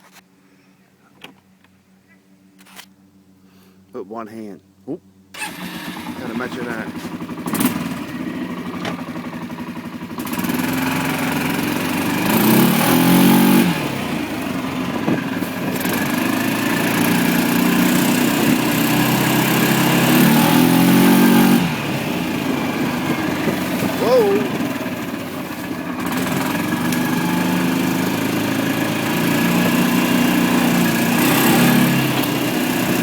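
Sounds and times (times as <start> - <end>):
atv engine running: 5.1 - 33.0.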